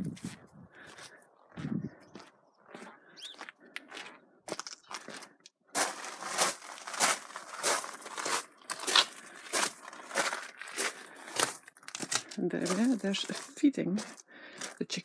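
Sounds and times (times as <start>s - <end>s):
footsteps crunching: 0.0s - 15.0s.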